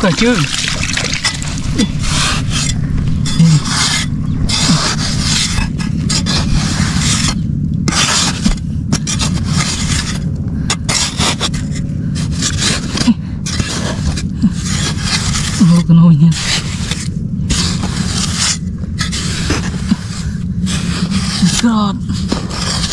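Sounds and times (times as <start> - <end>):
scraping in mud: 0.0 - 10.2, 10.8 - 22.9
low rumble: 0.0 - 22.9.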